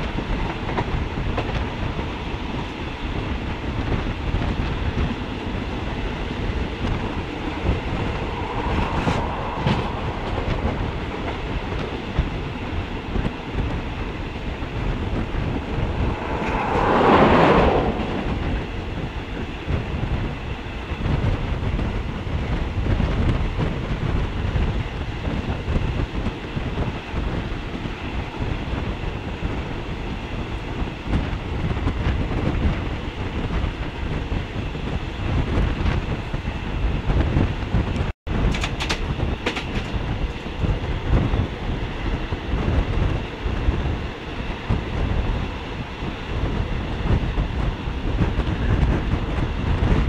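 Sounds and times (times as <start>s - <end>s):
train travel rushing noise: 0.0s - 50.0s
train wheels clattering on rails: 0.0s - 50.0s.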